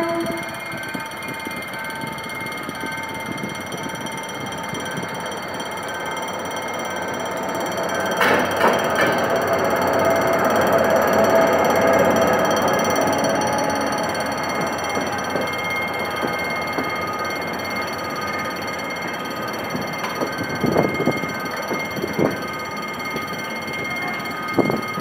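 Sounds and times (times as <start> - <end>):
diesel locomotive engine: 0.0 - 25.0
level crossing warning bell: 0.0 - 25.0.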